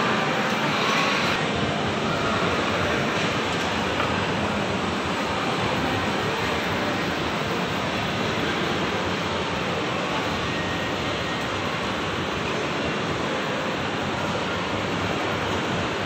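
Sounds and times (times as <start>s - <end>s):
indoor mall rushing noise: 0.0s - 16.0s.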